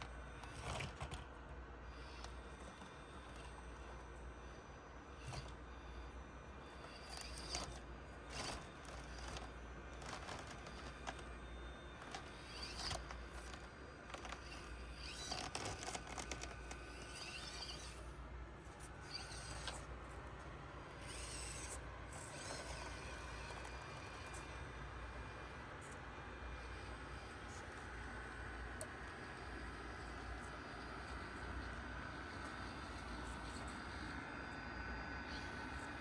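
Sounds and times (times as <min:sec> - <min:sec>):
small electric motor whining: 0:00.0 - 0:36.0
tyres and chassis clicking and scraping: 0:00.0 - 0:36.0.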